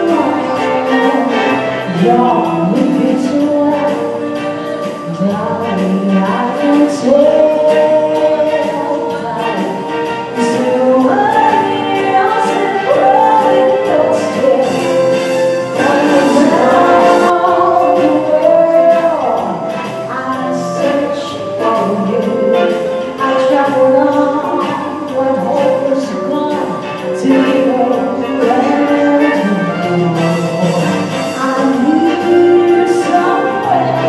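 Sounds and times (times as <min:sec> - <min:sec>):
woman singing into microphone: 0:00.0 - 0:34.0.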